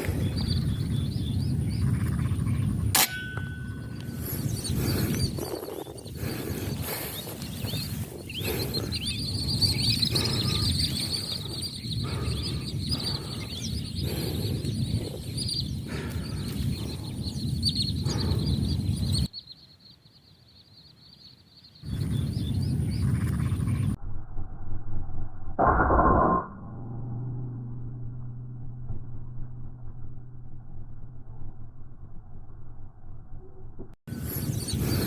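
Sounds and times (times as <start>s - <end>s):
low rumbling wind noise: 0.0s - 19.3s, 21.7s - 25.6s, 26.8s - 35.0s.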